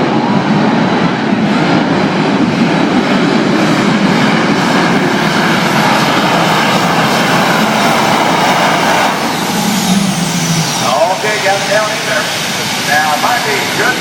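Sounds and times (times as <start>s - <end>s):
jet turbine engine roaring: 0.0s - 14.0s.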